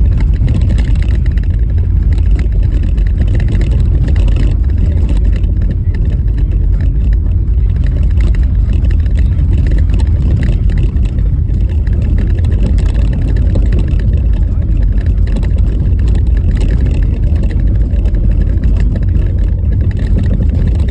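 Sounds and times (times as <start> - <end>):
tyres rumbling on bumpy snow road: 0.0 - 20.9.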